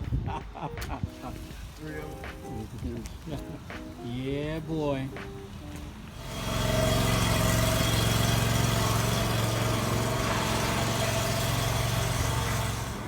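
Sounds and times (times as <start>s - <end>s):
engine running steadily: 0.8s - 13.0s.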